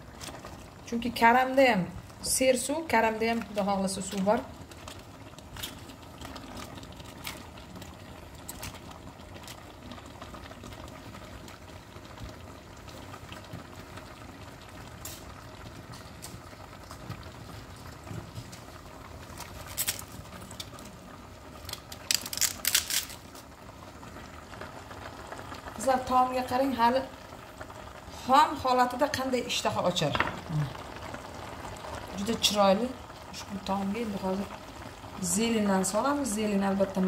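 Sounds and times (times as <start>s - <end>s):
food simmering and sizzling in pot: 0.0s - 37.0s.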